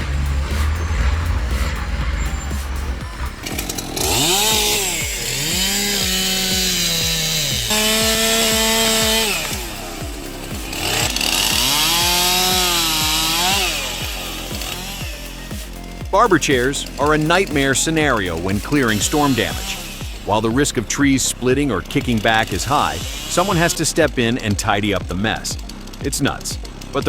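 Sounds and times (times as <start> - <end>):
background music with beat: 0.0 - 27.0
chainsaw revving: 0.0 - 27.0.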